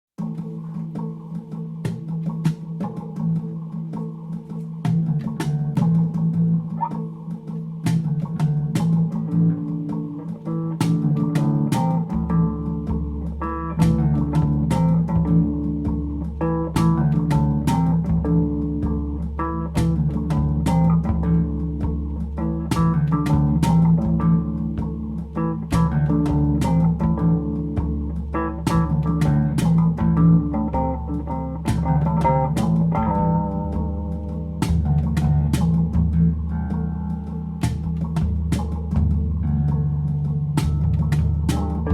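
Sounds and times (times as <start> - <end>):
bass guitar line: 0.2 - 41.9
plucked guitar over a beat: 0.2 - 41.9.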